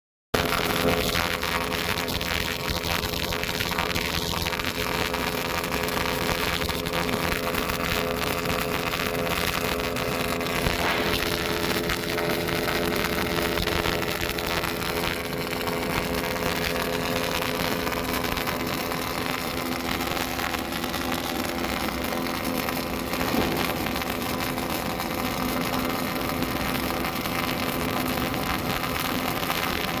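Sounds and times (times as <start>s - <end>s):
welding crackling hiss: 0.4s - 30.0s.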